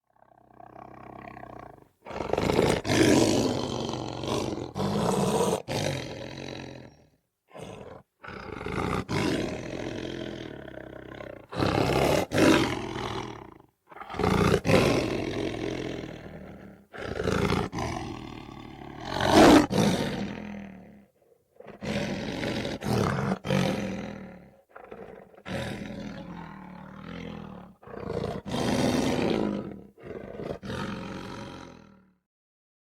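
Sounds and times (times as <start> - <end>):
lion growling and roaring: 0.1 - 32.2.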